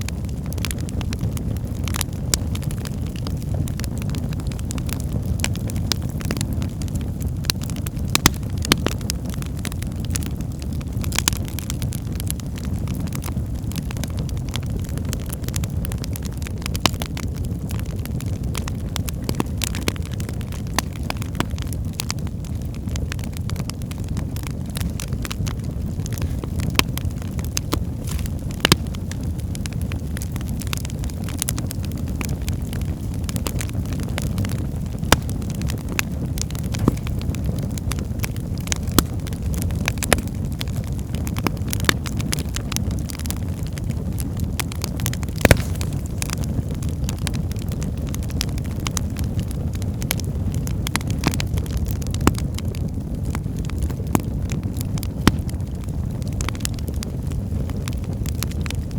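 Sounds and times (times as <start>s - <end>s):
fire crackling and popping: 0.0s - 58.9s.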